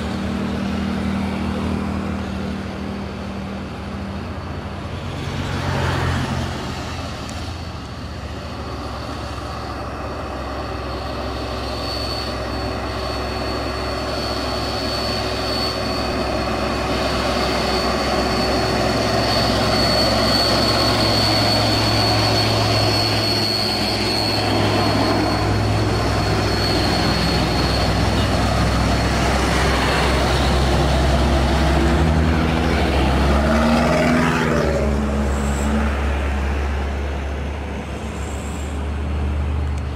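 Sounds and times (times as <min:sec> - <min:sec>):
truck diesel engines pulling uphill: 0:00.0 - 0:39.9
thin high whine: 0:07.0 - 0:39.0.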